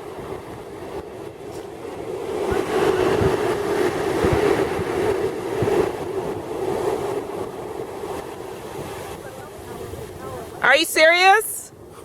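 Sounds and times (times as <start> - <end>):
wave washing up beach: 0.0 - 12.0
wind buffeting microphone: 0.0 - 12.0.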